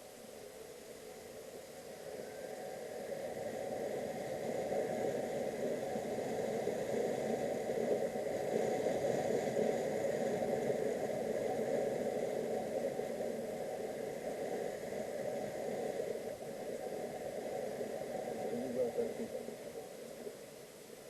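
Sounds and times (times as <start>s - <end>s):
wind noise: 2.0s - 20.3s.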